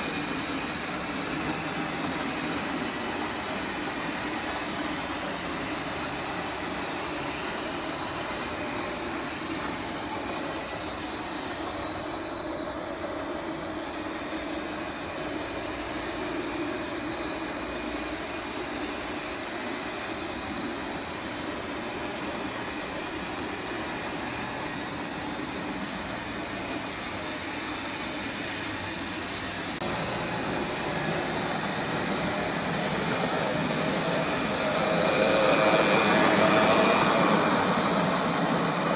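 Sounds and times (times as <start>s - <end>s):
model train motor whirring: 0.0s - 38.9s
wheels rolling on rails: 0.0s - 38.9s.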